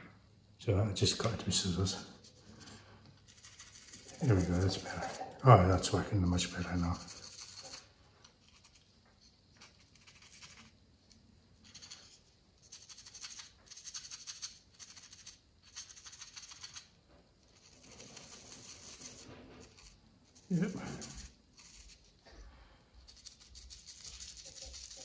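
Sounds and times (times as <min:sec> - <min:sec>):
paintbrush scrubbing: 0:02.0 - 0:10.7, 0:11.6 - 0:16.8, 0:17.5 - 0:22.2, 0:23.0 - 0:25.0.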